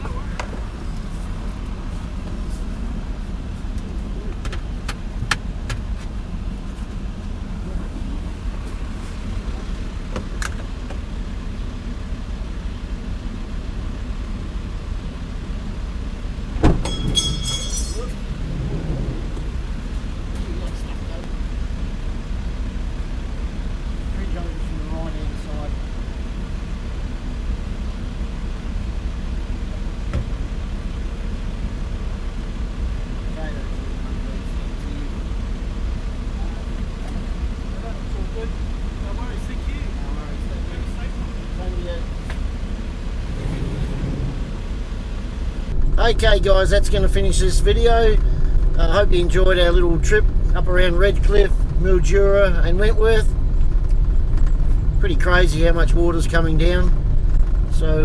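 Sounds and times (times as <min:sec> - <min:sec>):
van engine idling: 0:00.0 - 0:58.0.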